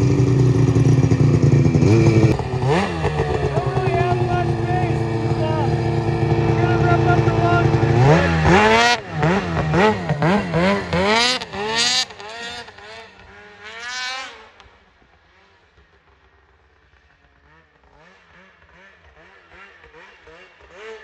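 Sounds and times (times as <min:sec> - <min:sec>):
snowmobile engine revving: 0:00.0 - 0:14.8, 0:17.1 - 0:21.0.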